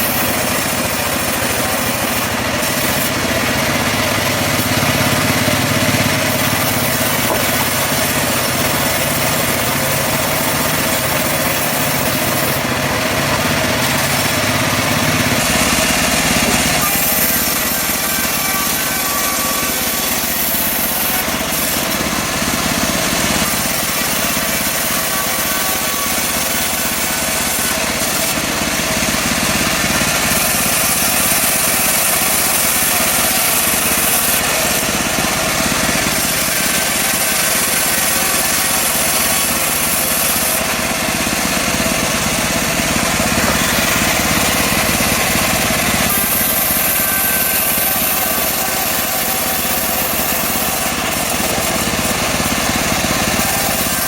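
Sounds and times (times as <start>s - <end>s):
bandsaw mill engine running: 0.0s - 54.0s
saw cutting log hiss: 0.0s - 54.0s.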